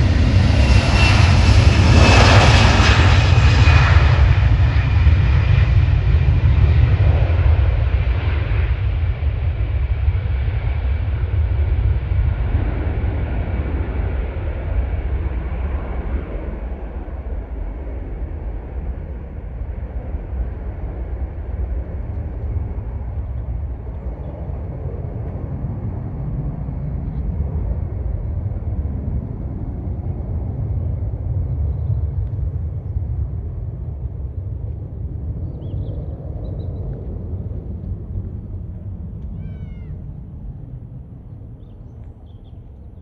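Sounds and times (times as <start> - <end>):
jet airliner engine rumble: 0.0 - 43.0.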